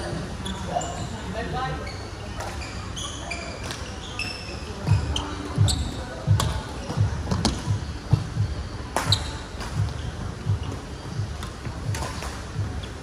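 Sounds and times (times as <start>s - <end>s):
shoe squeak: 0.4s - 6.6s, 7.3s - 13.0s.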